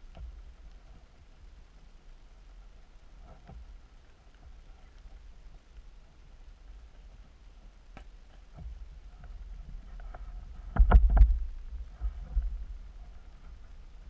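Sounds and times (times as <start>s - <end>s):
muffled underwater rumbling: 0.0s - 14.0s.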